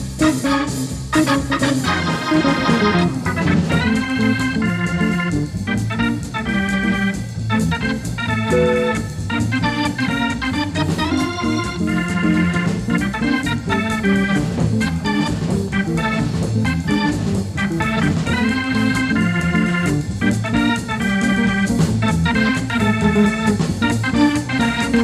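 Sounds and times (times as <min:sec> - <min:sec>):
organ playing jazz: 0:00.0 - 0:25.0.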